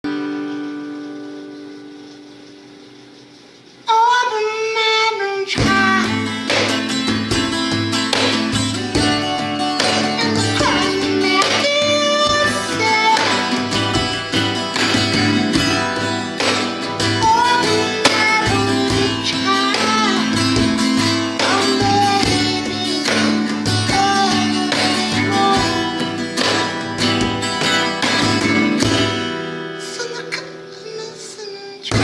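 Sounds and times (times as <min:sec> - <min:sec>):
plucked guitar music: 0:00.0 - 0:03.4, 0:05.5 - 0:32.0.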